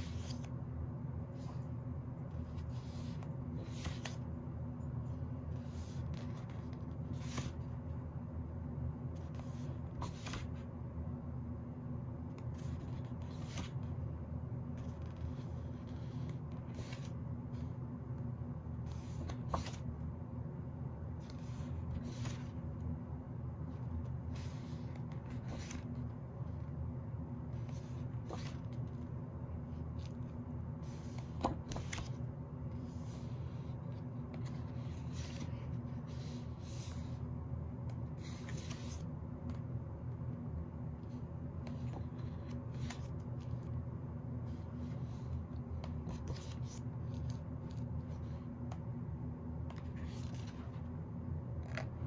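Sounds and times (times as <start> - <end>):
book pages turning: 0.0 - 4.4, 5.2 - 8.0, 9.1 - 10.7, 12.3 - 20.0, 21.1 - 22.9, 23.6 - 26.8, 27.4 - 39.7, 41.1 - 49.0, 49.6 - 52.0.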